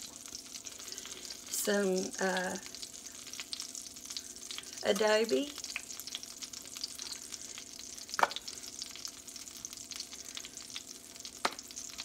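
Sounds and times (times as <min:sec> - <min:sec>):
faint steady hum: 0:00.0 - 0:12.0
oil sizzling in a frying pan: 0:00.0 - 0:12.0.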